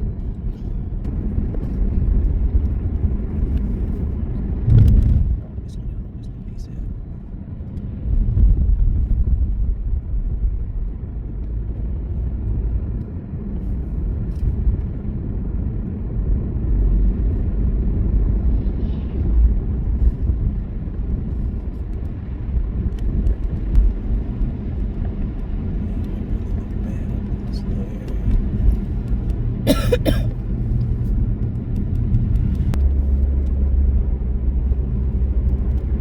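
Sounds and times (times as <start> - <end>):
car engine and tyre rumble: 0.0 - 36.0.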